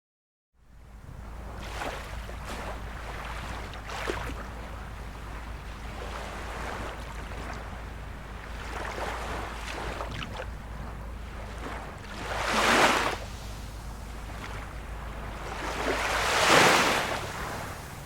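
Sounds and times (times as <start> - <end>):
low rumble: 0.6 - 18.0
small waves washing: 0.7 - 18.0.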